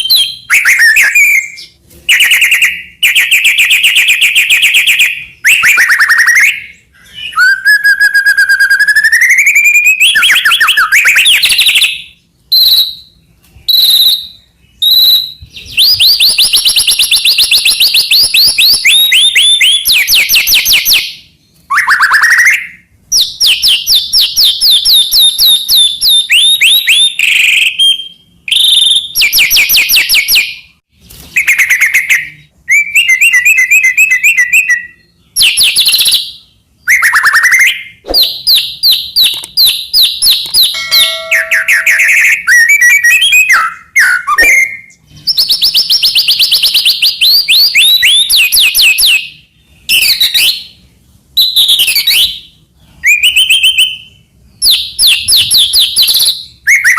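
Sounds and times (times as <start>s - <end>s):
songbird singing whistles and trills: 0.0s - 56.9s.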